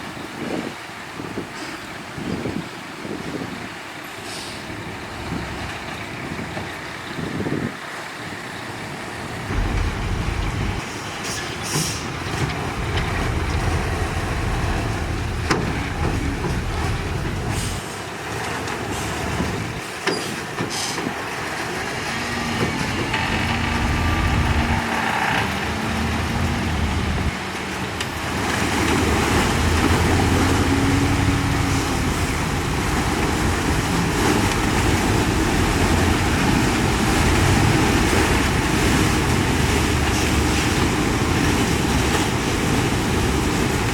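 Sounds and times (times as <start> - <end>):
diesel truck engine rumbling: 3.2 - 43.9.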